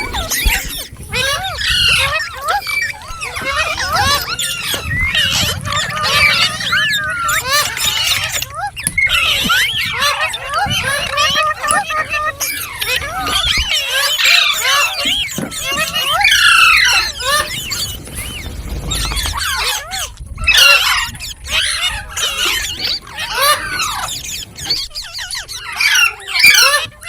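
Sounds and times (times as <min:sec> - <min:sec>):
parrot chirping and squawking: 0:00.0 - 0:27.0.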